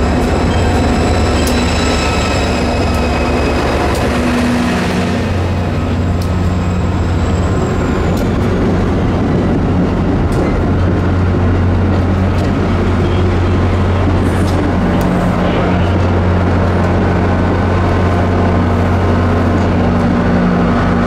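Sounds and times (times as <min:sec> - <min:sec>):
train running close by: 0:00.0 - 0:21.0.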